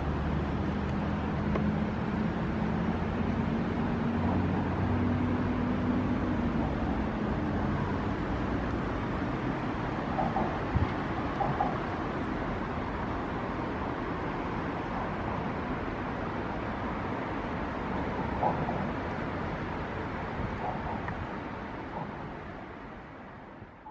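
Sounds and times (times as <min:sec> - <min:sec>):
road traffic rumble: 0:00.0 - 0:23.9.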